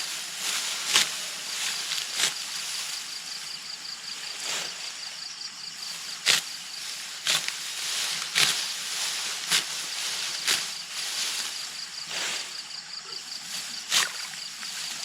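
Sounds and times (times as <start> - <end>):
high insect chirp: 0.0 - 15.0
steady outdoor hiss: 0.0 - 15.0.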